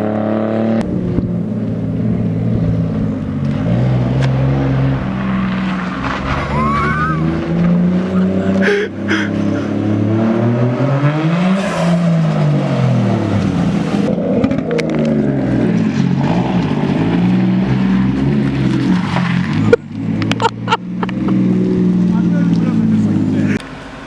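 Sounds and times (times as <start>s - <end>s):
car engine revving: 0.8s - 24.0s.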